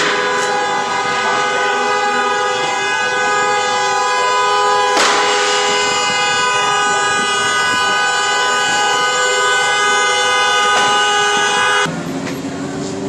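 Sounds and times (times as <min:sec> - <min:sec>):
vehicle horn two-note chord: 0:00.0 - 0:11.9.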